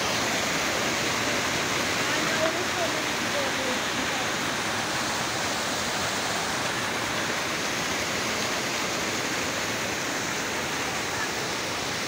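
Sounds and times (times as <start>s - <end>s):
stream cascading over boulders: 0.0s - 12.0s.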